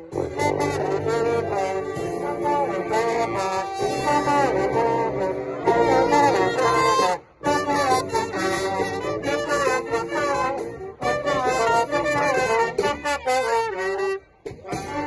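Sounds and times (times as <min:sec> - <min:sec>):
brass band playing upbeat tune: 0:00.0 - 0:15.0.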